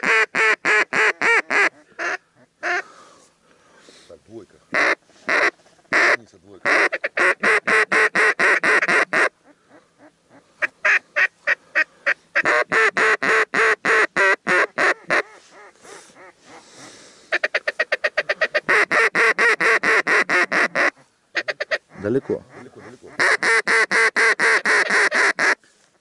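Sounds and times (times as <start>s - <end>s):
duck quacking: 0.0s - 2.9s, 4.7s - 25.6s.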